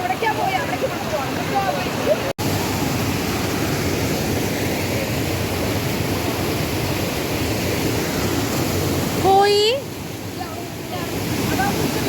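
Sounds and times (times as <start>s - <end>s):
waterfall and river rushing: 0.0s - 12.0s.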